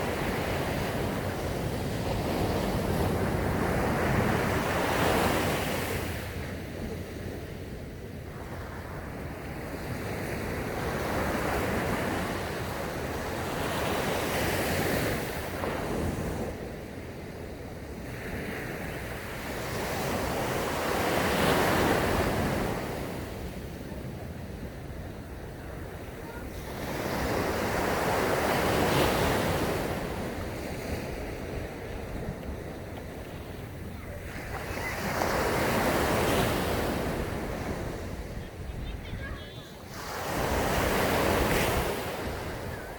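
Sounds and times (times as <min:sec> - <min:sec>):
wind buffeting microphone: 0:00.0 - 0:13.4, 0:19.6 - 0:42.9
waves breaking on a beach: 0:00.0 - 0:42.9.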